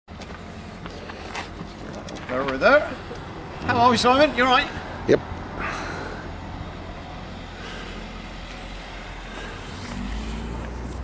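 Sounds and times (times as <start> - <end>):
vehicle engine rumbling: 0.1 - 11.0.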